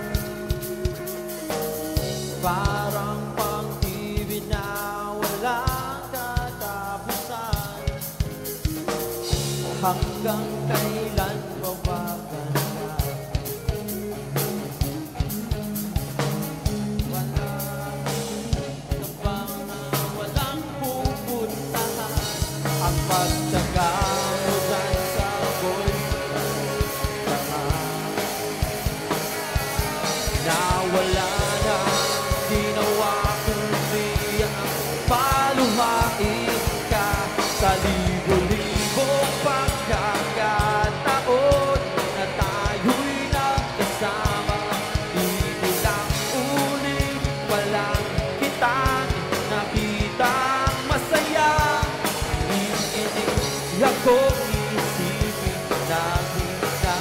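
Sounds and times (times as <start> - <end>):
live rock band playing: 0.0 - 57.0
man singing into microphone: 2.0 - 8.2, 9.2 - 13.6, 16.7 - 28.6, 29.8 - 57.0.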